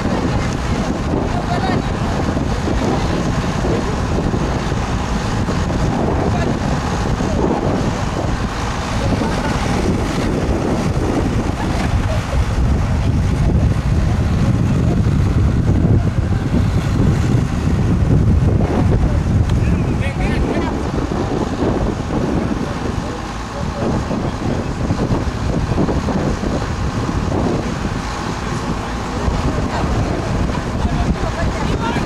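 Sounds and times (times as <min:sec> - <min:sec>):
choppy river water: 0:00.0 - 0:32.0
wind buffeting microphone: 0:00.0 - 0:32.0.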